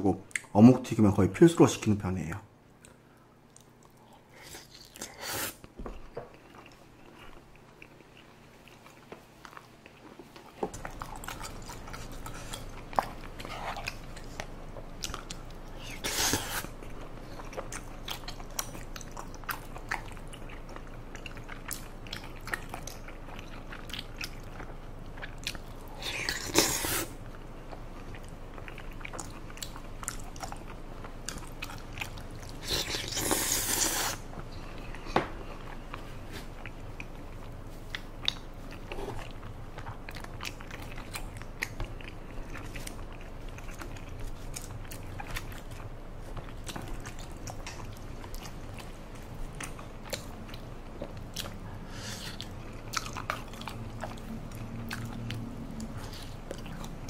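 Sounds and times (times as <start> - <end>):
person chewing rice cakes: 2.7 - 57.0.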